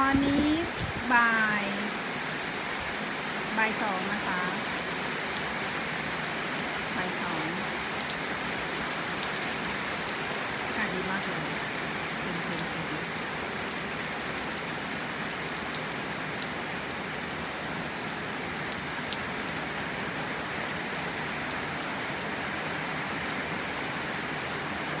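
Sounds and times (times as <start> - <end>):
raindrops ticking on surfaces: 0.0 - 25.0
steady rain hiss: 0.0 - 25.0.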